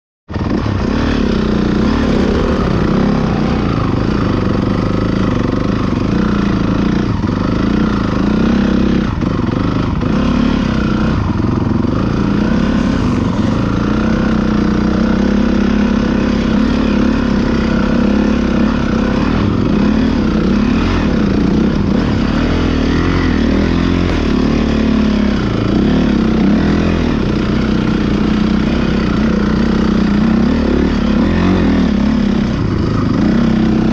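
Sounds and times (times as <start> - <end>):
motorcycle engines idling and revving: 0.3 - 33.9.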